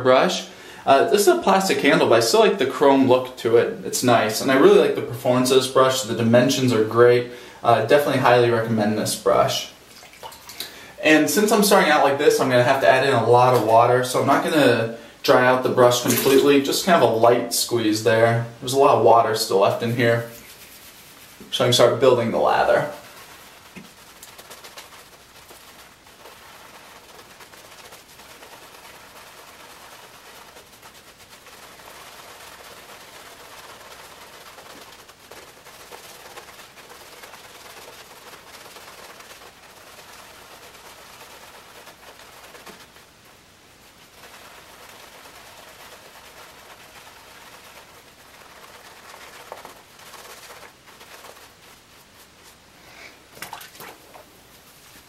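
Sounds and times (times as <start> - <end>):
shaving brush swirling lather: 0.2 - 55.0.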